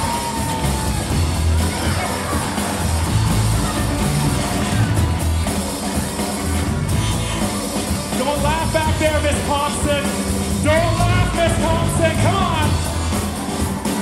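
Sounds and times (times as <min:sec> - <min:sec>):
live band dance groove: 0:00.0 - 0:14.0.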